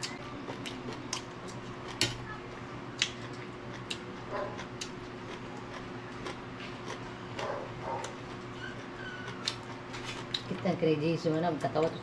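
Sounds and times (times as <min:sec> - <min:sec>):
chewing crunchy vegetables: 0:00.0 - 0:02.3, 0:02.9 - 0:10.6
steady low hum: 0:00.0 - 0:12.0.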